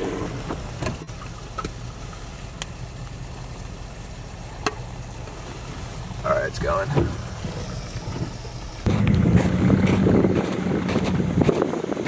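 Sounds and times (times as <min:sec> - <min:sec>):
pickup engine rumble from cab: 0:00.0 - 0:12.0.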